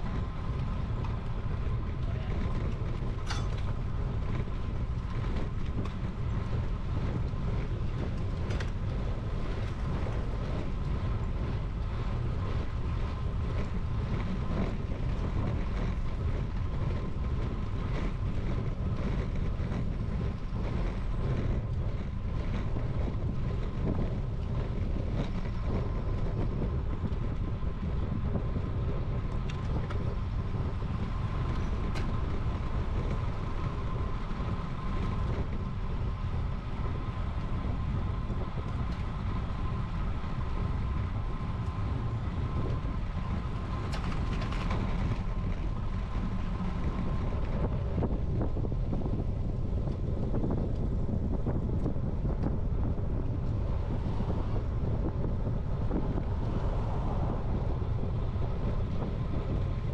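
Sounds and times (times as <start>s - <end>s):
sharp clicks from bumps: 0.0s - 59.9s
tyres rolling on rough asphalt: 0.0s - 59.9s
wind rushing over microphone: 0.0s - 59.9s.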